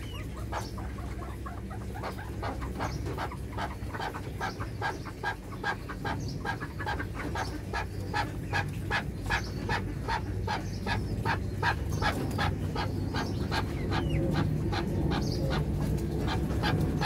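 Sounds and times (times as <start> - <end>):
partridge calling: 0.0 - 17.0.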